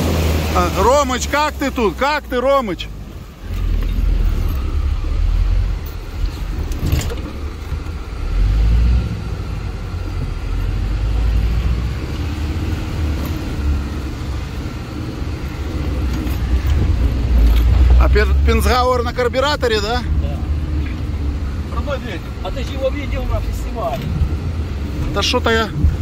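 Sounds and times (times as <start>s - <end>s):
vehicle cabin low rumble: 0.0s - 26.0s.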